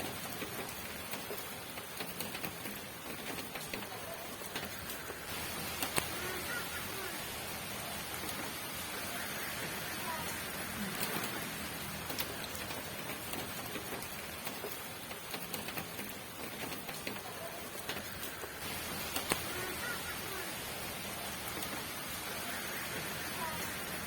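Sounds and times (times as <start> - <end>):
sharp raindrop hits: 0.0 - 24.0
steady rain falling: 0.0 - 24.0.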